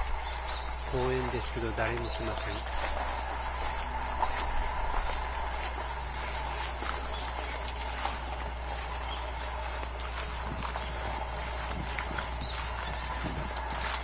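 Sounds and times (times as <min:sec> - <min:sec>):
faint footsteps: 0:00.0 - 0:14.0
high-pitched insect chirring: 0:00.0 - 0:14.0.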